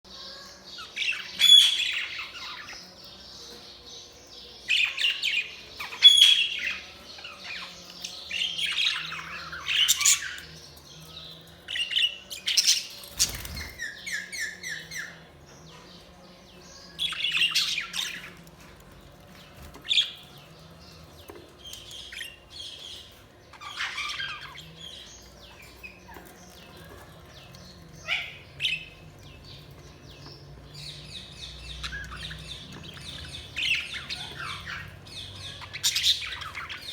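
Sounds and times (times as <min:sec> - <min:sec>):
budgerigars chirping and squawking: 0:00.1 - 0:36.9.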